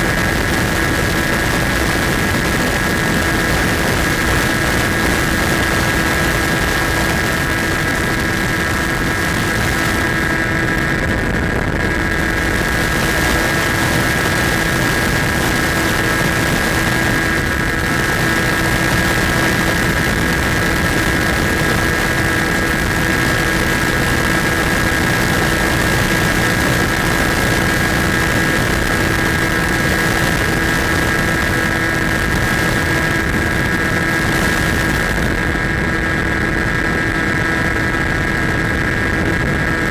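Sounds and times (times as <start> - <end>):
model airplane motor running: 0.0 - 39.9.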